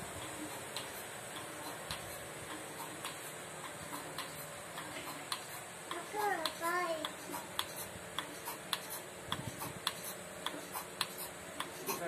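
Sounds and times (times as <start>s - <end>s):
milking machine humming: 0.0s - 12.0s
milking machine pulsator clicking: 0.2s - 12.0s.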